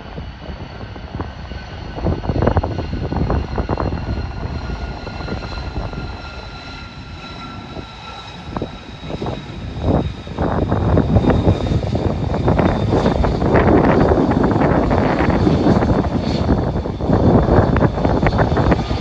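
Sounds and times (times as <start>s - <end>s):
jet engine whine and rumble: 0.0s - 19.0s.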